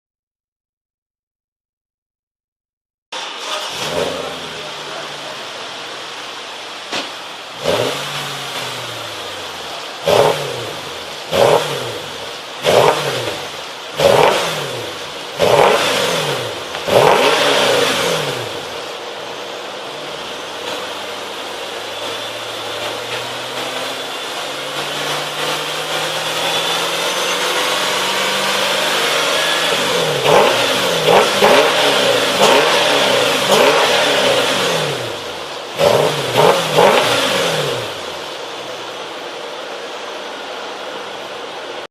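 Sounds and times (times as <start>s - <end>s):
car exhaust revving: 3.2s - 41.8s.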